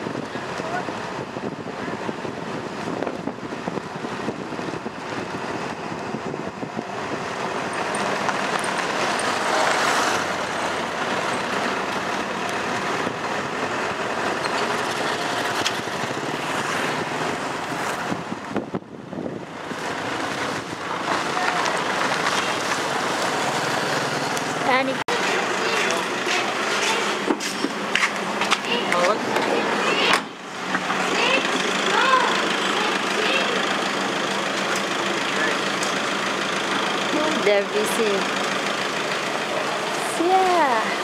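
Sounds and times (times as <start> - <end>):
road and wind noise: 0.0 - 41.0.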